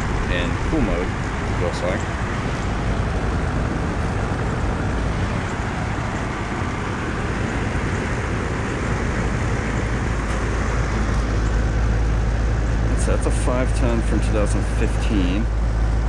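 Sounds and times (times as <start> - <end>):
compressor low hum: 0.0 - 16.0
condenser fan blowing air: 0.0 - 16.0.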